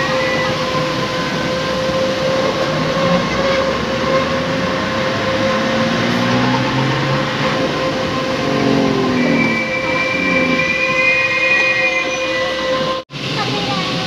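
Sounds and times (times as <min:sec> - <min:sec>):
bus engine rumble and rattle: 0:00.0 - 0:11.0, 0:12.8 - 0:14.0
constant whine: 0:00.0 - 0:14.0.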